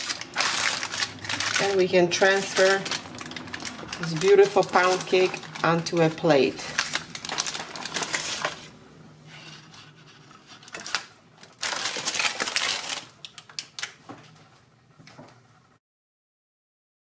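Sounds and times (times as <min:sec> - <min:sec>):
baking paper crinkling: 0:00.0 - 0:08.8, 0:09.4 - 0:14.7.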